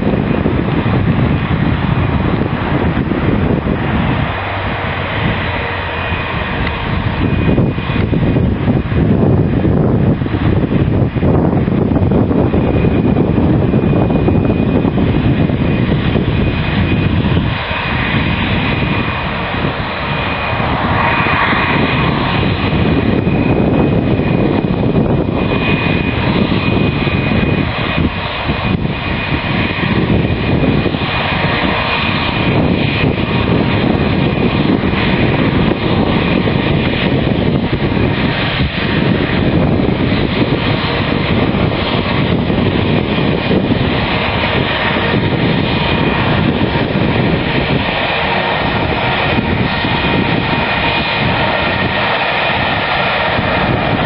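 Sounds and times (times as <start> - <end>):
high jet engine whine: 0.0 - 54.0
jet engines rumbling: 0.0 - 54.0.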